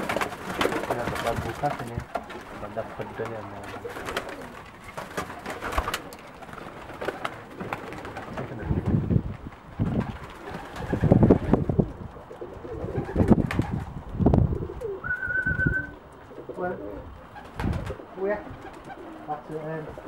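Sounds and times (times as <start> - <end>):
pigeons cooing: 0.0 - 9.1, 9.8 - 20.0.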